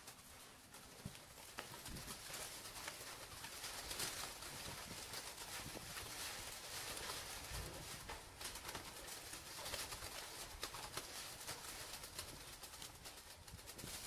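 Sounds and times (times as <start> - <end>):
small clicks and rustles: 0.0 - 14.0.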